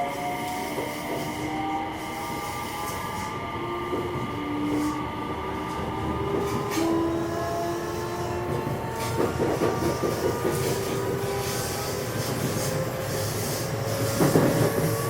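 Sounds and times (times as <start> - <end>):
train inverter whine: 0.0 - 15.0
wheels rumbling on rail: 0.5 - 15.0.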